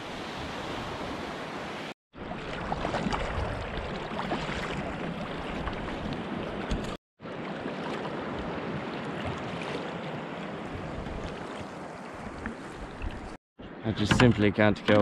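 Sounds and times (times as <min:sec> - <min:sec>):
small waves on sandy beach: 0:00.0 - 0:13.4
paddles splashing: 0:00.3 - 0:13.4
water lapping at hulls: 0:00.3 - 0:13.4.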